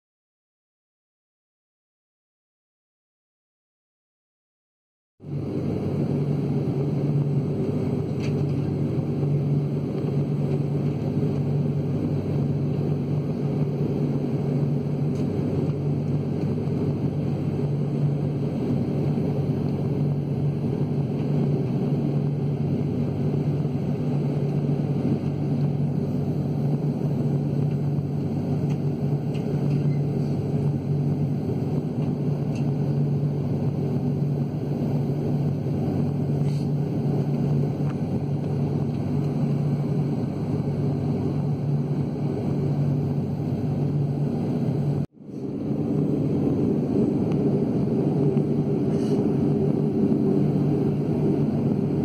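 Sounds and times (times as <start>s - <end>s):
airliner cabin hum: 5.2s - 52.0s.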